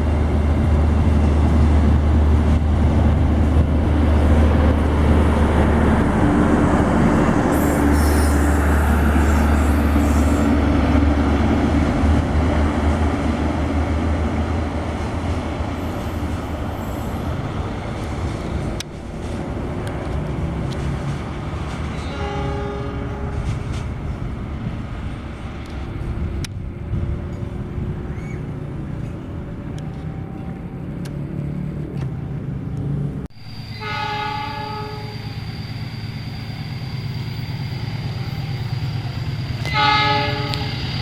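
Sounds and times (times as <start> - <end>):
locomotive engine drone: 0.0 - 21.7, 23.4 - 41.0.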